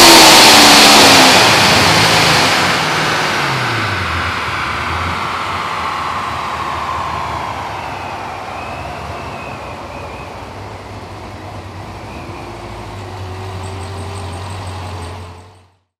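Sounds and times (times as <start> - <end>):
car engine whine and drone: 0.0 - 16.0.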